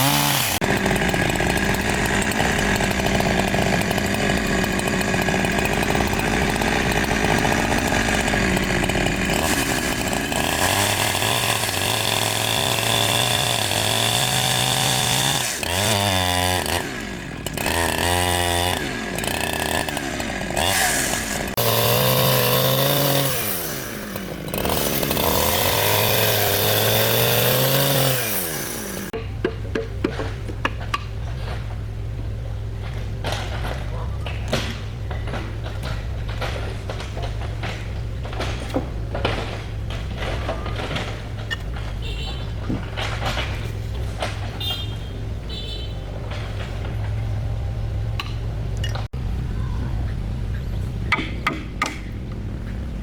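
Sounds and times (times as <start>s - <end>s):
chainsaw cutting wood: 0.0s - 29.2s, 32.8s - 49.1s.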